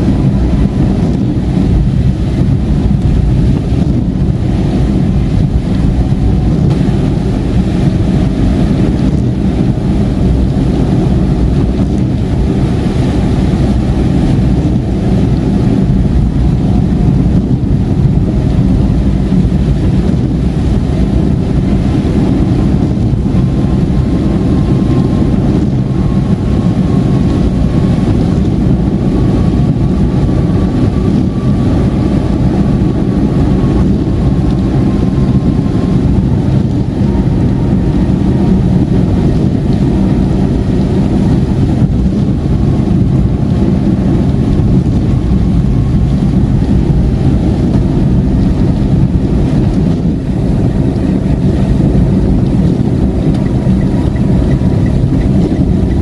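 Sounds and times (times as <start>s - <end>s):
car engine and tyres on wet road: 0.0s - 56.0s
faint whine: 0.0s - 56.0s.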